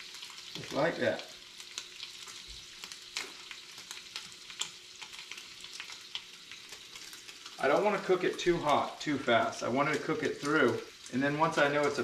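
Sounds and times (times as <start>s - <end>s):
food sizzling in skillets: 0.0s - 12.0s.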